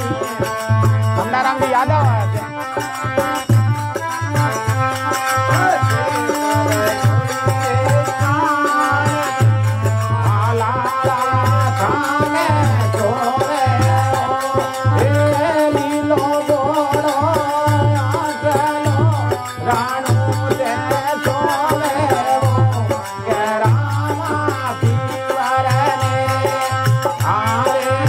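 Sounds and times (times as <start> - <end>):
man singing folk song: 0.0 - 2.5, 5.2 - 28.0
hand drum beat: 0.0 - 28.0
held accompaniment notes: 0.0 - 28.0.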